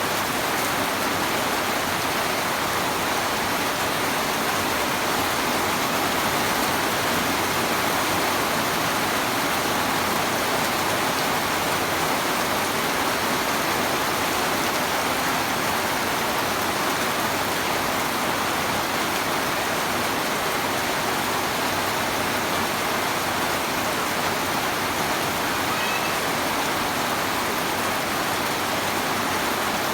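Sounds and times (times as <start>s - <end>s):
heavy rain on a metal roof: 0.0s - 29.9s.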